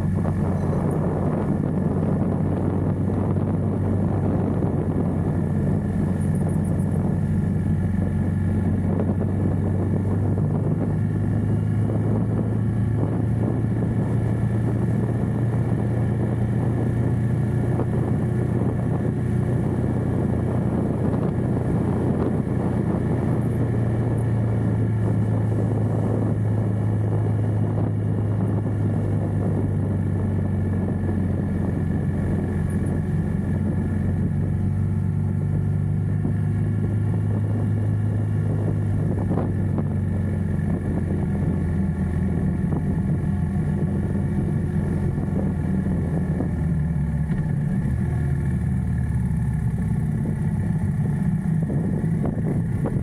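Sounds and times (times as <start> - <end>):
motorcycle engine running: 0.0 - 53.0
rush of riding air: 0.0 - 53.0.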